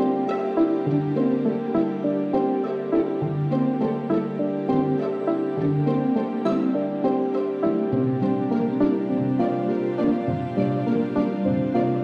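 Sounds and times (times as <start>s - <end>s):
gentle instrumental music: 0.0s - 12.0s.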